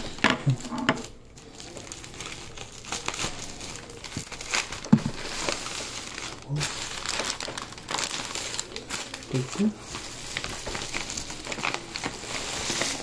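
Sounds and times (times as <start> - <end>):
packing paper crinkling: 0.0 - 13.0.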